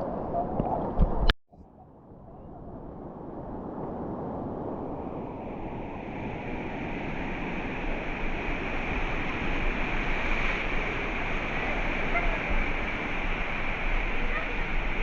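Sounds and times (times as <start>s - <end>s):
sea surf washing: 2.5s - 15.0s.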